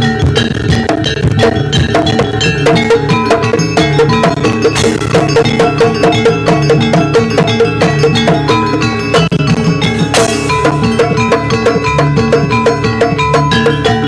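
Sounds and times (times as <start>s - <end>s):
gamelan ensemble dance music: 0.0s - 14.0s.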